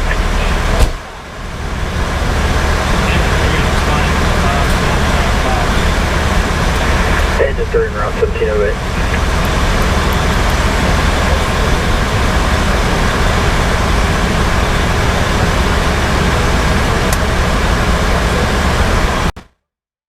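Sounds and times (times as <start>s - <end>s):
diesel engine running: 0.0s - 19.4s
road noise: 0.0s - 19.4s.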